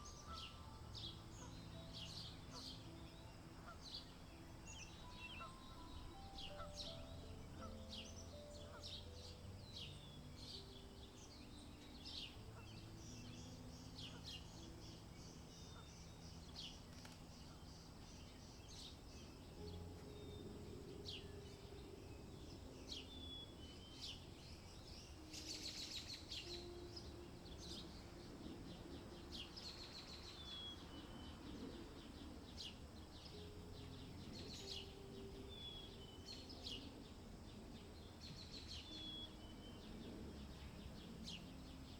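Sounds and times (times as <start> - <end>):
small songbirds chirping: 0.0 - 41.9
soft low sustained tones: 0.0 - 41.9.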